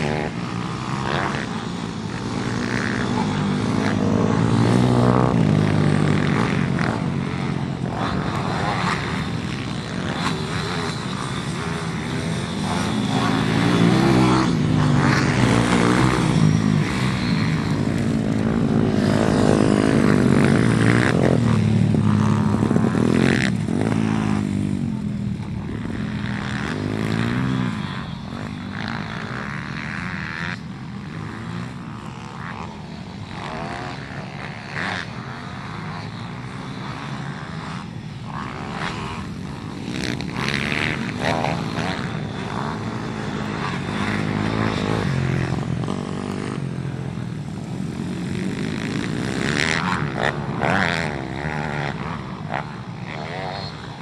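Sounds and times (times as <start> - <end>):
motorbike engines revving: 0.0 - 54.0.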